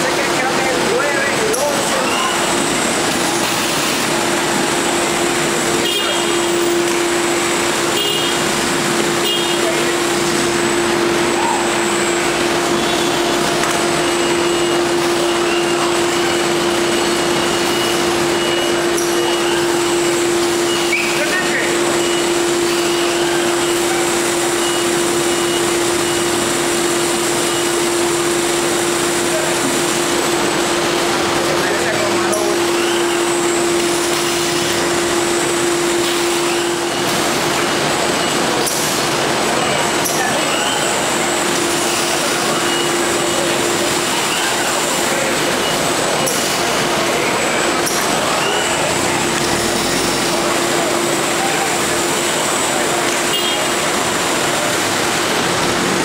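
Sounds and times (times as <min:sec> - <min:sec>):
factory machinery hum: 0:00.0 - 0:56.0.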